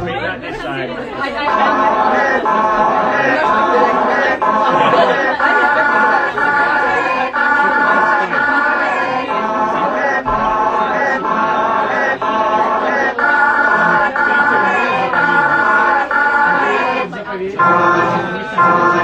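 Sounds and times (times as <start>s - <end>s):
electronic music with repeating chords: 1.4s - 19.0s.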